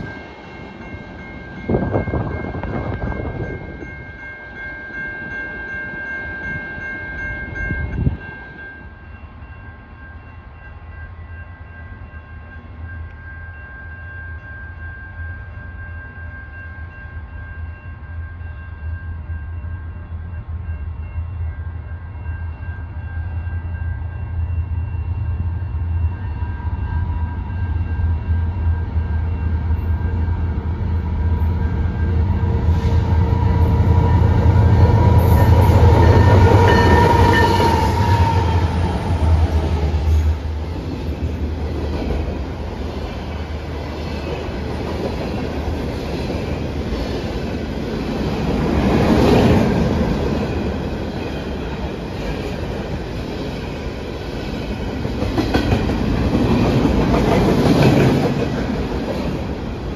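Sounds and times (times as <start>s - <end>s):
diesel locomotive engine hum: 0.0s - 59.9s
train rolling noise: 0.0s - 59.9s.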